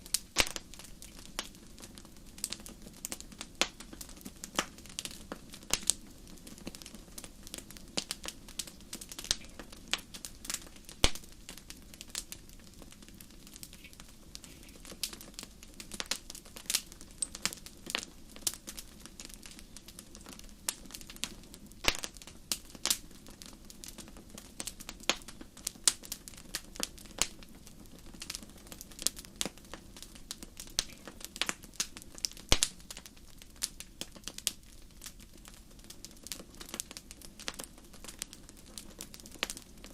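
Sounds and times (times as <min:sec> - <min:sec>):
firewood popping and snapping: 0:00.0 - 0:39.9
low rumble of flames: 0:00.0 - 0:39.9.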